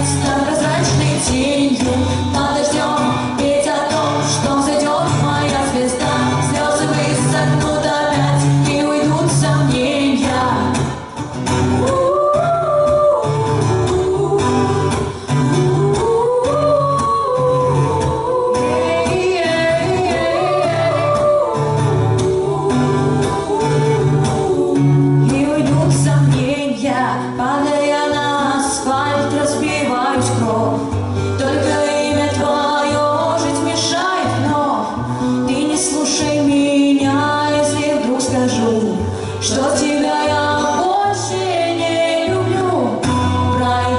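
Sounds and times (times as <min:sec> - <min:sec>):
instrumental accompaniment with bass: 0:00.0 - 0:43.9
women singing: 0:00.0 - 0:43.9.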